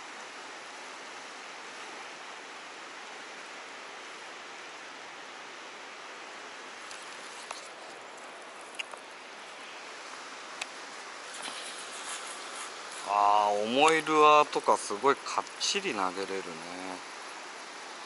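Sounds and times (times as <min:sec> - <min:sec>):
fast stream rushing over rocks: 0:00.0 - 0:18.0.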